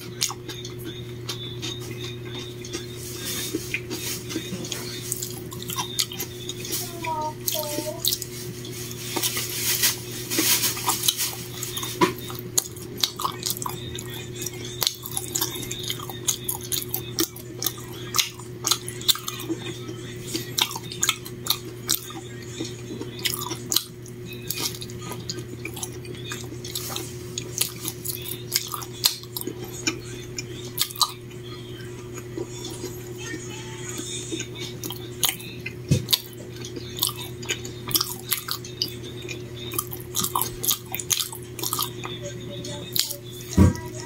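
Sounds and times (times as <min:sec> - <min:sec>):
person chewing food: 0:00.0 - 0:42.2, 0:42.9 - 0:43.8.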